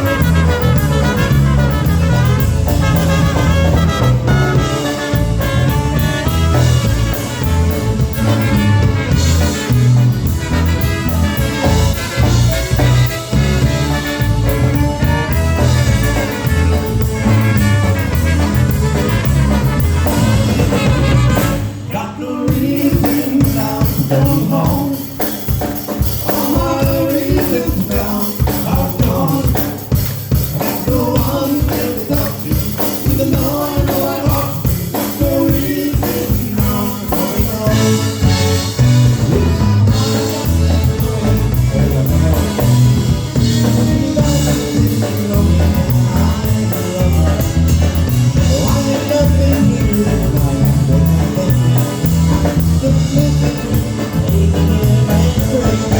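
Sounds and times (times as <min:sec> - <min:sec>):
drum kit beat: 0:00.0 - 0:55.9
polka band playing: 0:00.0 - 0:55.9.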